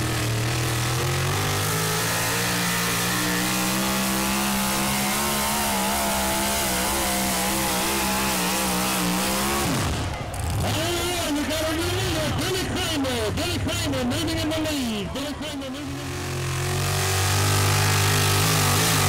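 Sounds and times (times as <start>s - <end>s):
truck engine at full throttle: 0.0s - 19.0s.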